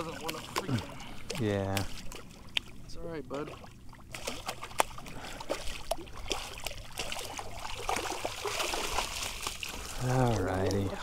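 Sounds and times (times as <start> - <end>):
landing net dipping into water: 0.0 - 2.8, 3.4 - 10.8
stingray thrashing and splashing: 0.0 - 2.8, 3.4 - 11.0.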